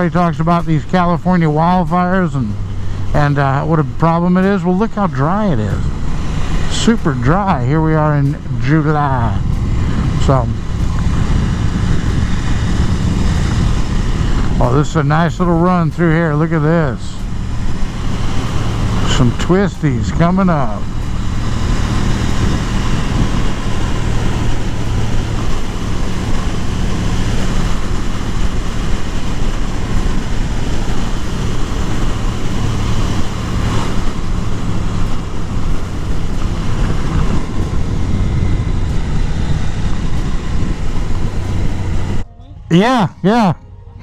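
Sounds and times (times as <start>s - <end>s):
motorcycle engine running: 0.0s - 42.9s
wind rush over microphone: 5.0s - 42.3s.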